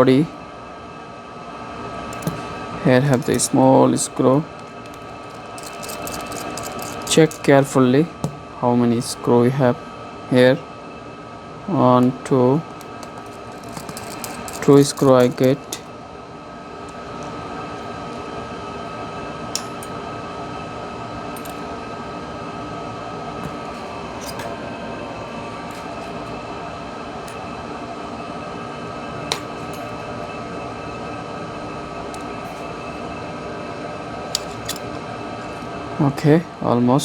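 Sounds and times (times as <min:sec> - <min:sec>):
machine hum with steady tones: 0:00.0 - 0:37.0.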